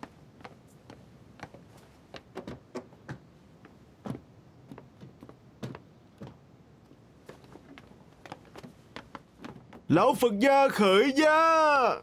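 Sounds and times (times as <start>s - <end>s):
footsteps on stone paving: 0.0s - 10.0s.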